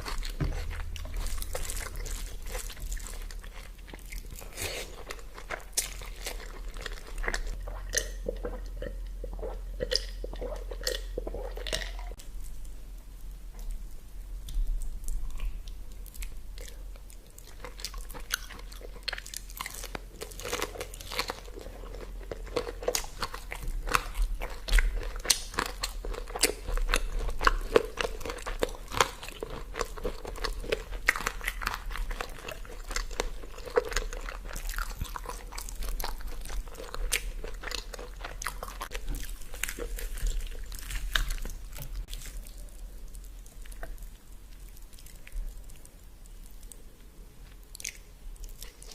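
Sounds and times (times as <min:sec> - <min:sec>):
person chewing crunchy food: 0:00.0 - 0:12.2, 0:14.8 - 0:48.9.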